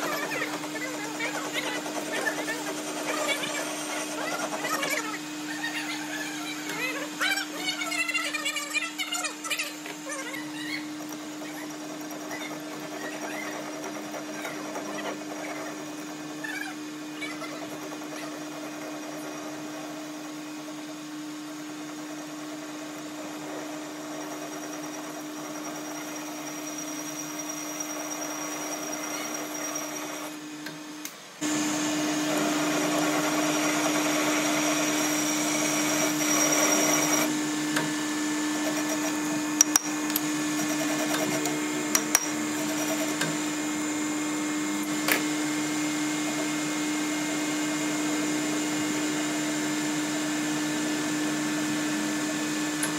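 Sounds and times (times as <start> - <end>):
metal lathe cutting: 0.0 - 8.0, 9.9 - 30.6, 31.4 - 52.9
motor hum: 0.0 - 52.9.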